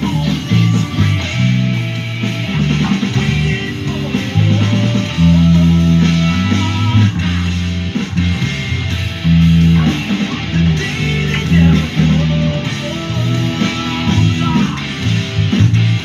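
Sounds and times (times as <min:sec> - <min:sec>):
electric bass guitar playing: 0:00.0 - 0:16.0.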